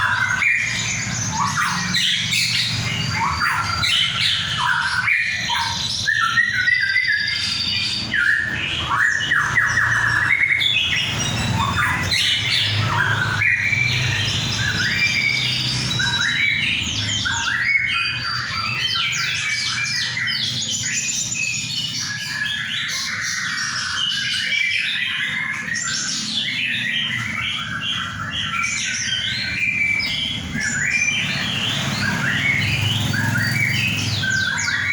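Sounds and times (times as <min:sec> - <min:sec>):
birds chirping and trilling: 0:00.0 - 0:34.9.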